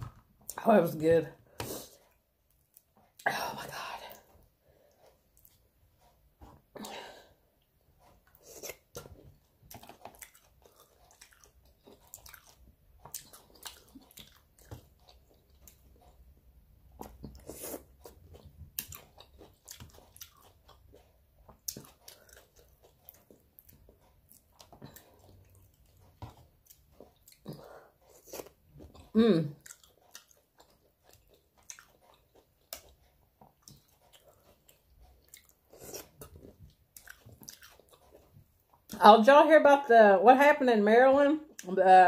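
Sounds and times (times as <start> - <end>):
chewing and crunching food: 1.6 - 39.0.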